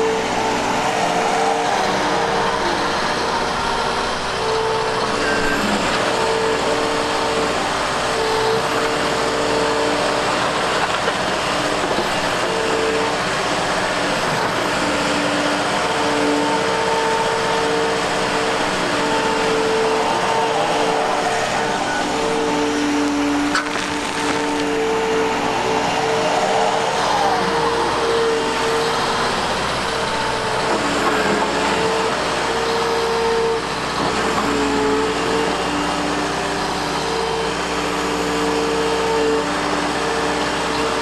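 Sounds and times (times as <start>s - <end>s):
excavator engine and machinery: 0.0s - 41.0s
hydraulic whine: 0.0s - 41.0s.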